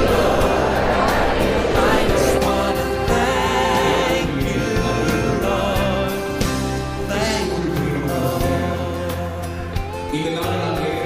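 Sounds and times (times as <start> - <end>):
instrumental backing: 0.0 - 11.0
person singing wavering notes: 1.9 - 11.0.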